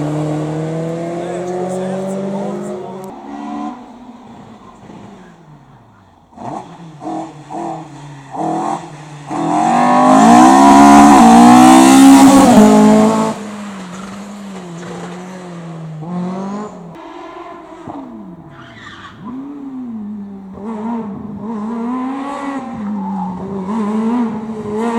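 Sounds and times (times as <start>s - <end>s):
race car engine revving: 0.0s - 24.9s.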